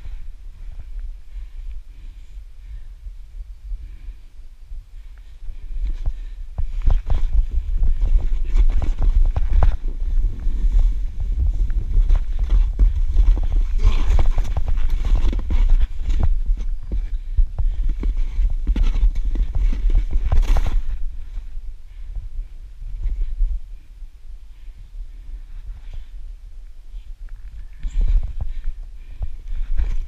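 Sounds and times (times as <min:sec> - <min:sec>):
low microphone rumble: 0:00.0 - 0:30.0.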